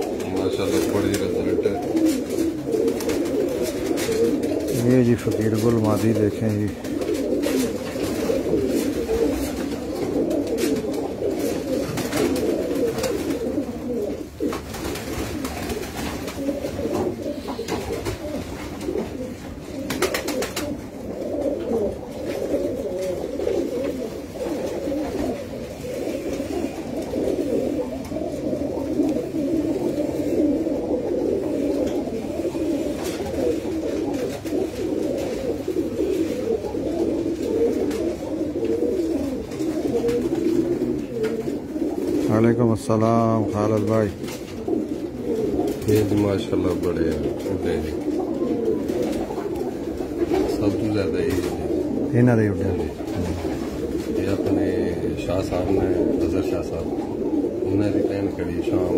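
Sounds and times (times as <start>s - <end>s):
pigeons cooing: 0.0s - 58.9s.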